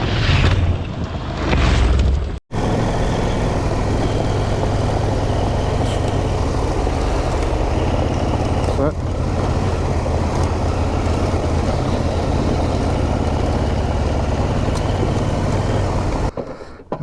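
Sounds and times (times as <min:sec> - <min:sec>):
motorcycle engine running: 0:02.5 - 0:16.3.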